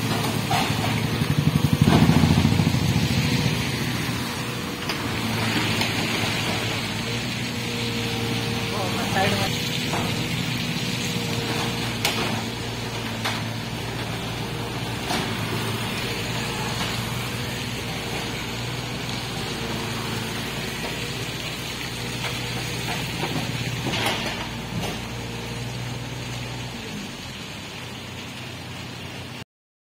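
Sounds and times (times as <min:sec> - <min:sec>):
excavator diesel engine running: 0:00.0 - 0:29.4
motorbikes passing on wet road: 0:00.0 - 0:29.4.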